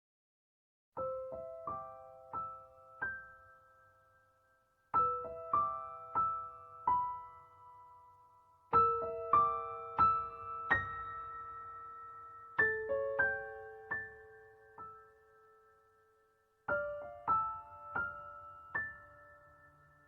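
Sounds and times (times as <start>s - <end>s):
slow piano melody: 1.0s - 20.0s.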